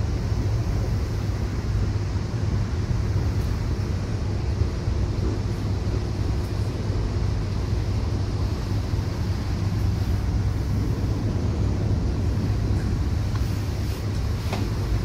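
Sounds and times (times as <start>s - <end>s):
train rumbling from on board: 0.0s - 15.0s.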